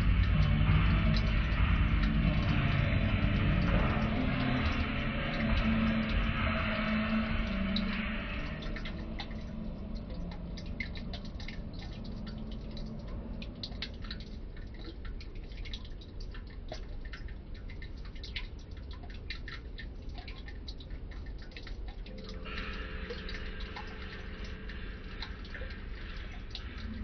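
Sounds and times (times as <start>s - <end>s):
low room hum: 0.0s - 27.0s
small irregular clicks: 0.0s - 27.0s.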